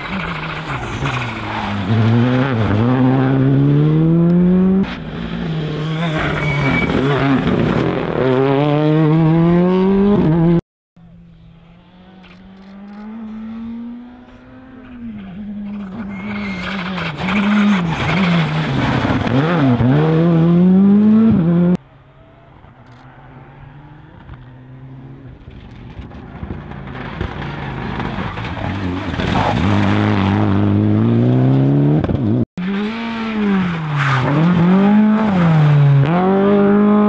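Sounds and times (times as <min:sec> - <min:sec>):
rally car engines revving: 0:00.0 - 0:21.8, 0:22.5 - 0:37.0.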